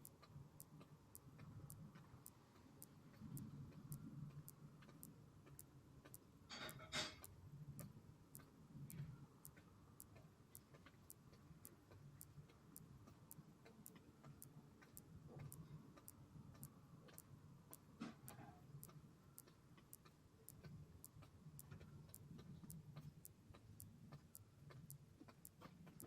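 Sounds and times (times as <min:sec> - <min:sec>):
clock ticking: 0:00.0 - 0:26.0.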